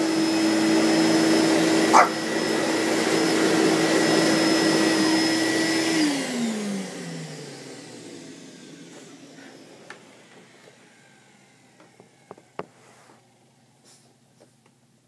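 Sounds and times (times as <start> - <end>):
vacuum cleaner running: 0.0 - 14.3.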